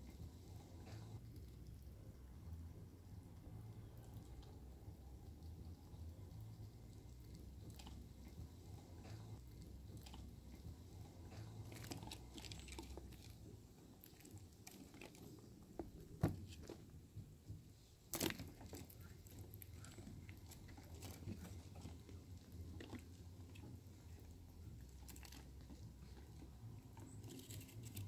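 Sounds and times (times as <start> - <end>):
chipmunk chewing fruit: 0.0 - 28.0.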